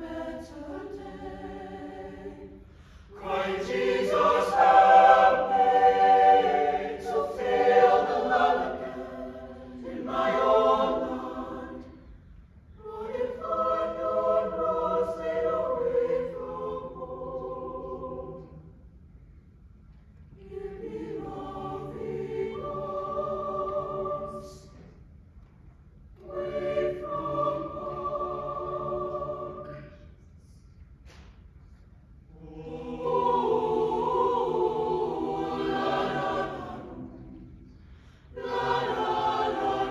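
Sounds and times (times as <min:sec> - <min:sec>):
mixed choir singing: 0:00.0 - 0:19.0, 0:20.4 - 0:25.0, 0:26.2 - 0:30.2, 0:32.3 - 0:39.9.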